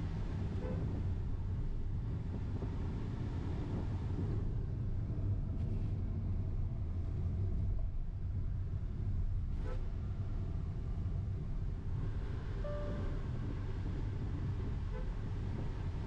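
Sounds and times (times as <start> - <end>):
car cabin engine and road rumble: 0.0 - 16.0.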